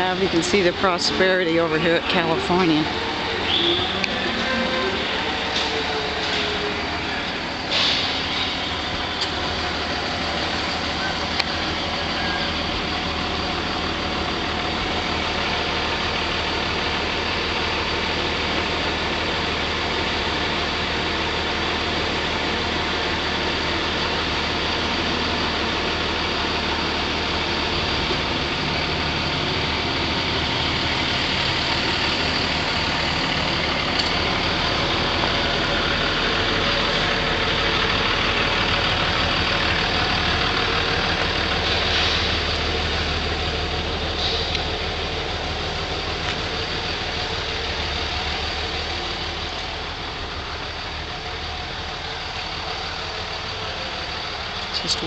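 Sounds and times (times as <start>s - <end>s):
outdoor noise: 0.0s - 55.0s
vehicle engine idling: 0.0s - 55.0s.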